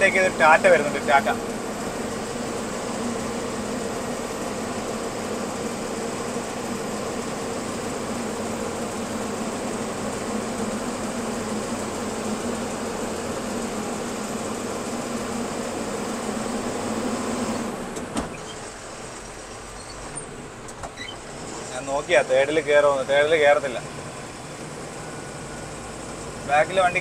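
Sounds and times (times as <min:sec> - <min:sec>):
lorry diesel engine drone: 0:00.0 - 0:27.0
road noise: 0:00.0 - 0:27.0.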